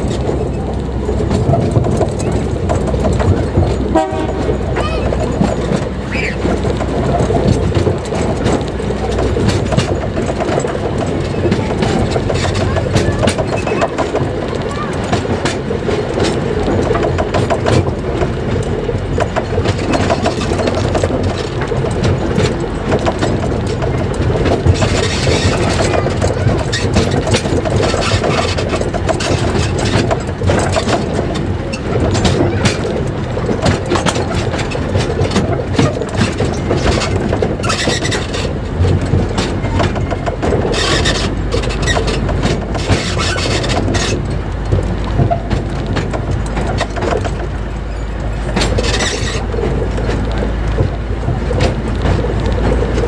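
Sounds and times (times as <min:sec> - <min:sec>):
low train rumble: 0:00.0 - 0:53.0
train wheels clicking over rail joints: 0:00.0 - 0:53.0.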